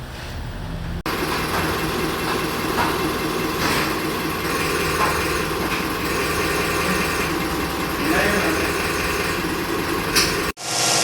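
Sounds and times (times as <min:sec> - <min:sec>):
machine running steadily: 0:01.0 - 0:10.6.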